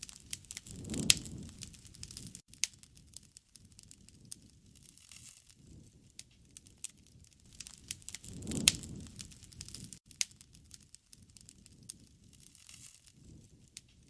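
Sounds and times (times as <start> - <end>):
low rush of flames: 0.0 - 14.0
wood fire crackling: 0.0 - 14.0.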